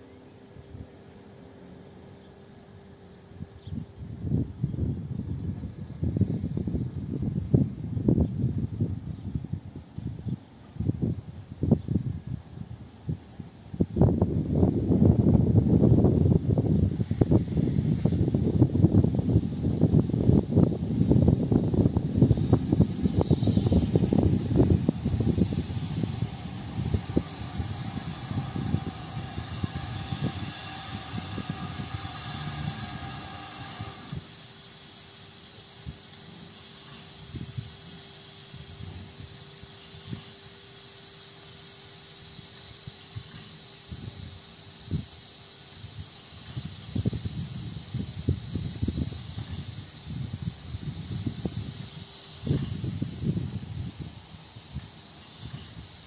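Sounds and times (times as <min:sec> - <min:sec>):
high steam locomotive squeal: 0:00.0 - 0:56.0
steam hissing: 0:05.9 - 0:56.0.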